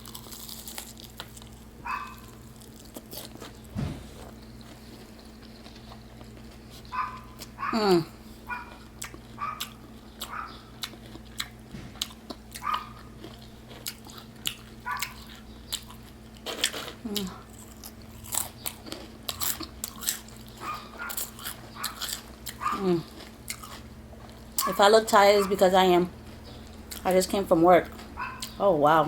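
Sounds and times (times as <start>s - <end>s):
crunchy bites and chewing: 0.0s - 24.9s.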